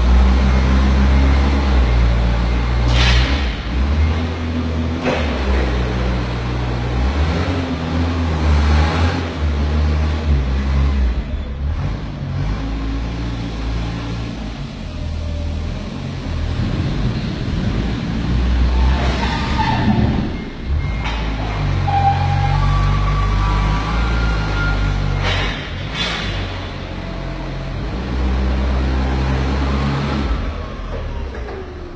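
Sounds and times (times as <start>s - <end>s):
forklift engine revving: 0.0s - 31.9s.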